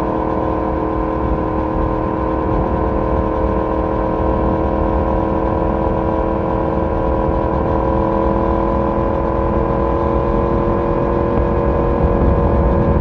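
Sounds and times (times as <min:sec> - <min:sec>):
motorcycle engine cruising: 0:00.0 - 0:13.0
wind and road rumble: 0:00.0 - 0:13.0.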